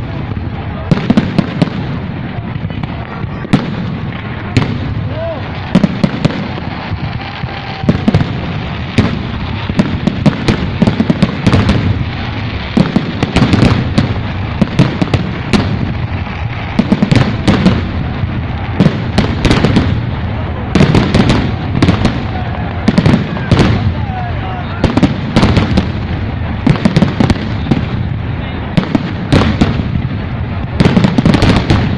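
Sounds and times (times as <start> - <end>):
continuous rumble: 0.0 - 31.9
fireworks cracking and banging: 0.0 - 31.9.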